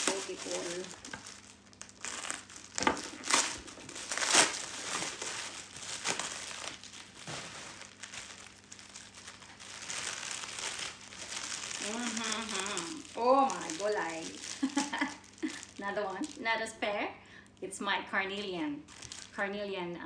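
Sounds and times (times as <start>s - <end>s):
bubble wrap crinkling: 0.0s - 19.7s.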